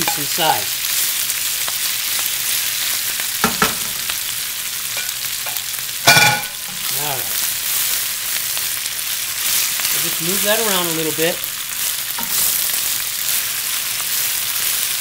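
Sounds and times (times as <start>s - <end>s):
leaves sizzling in hot oil: 0.0s - 15.0s.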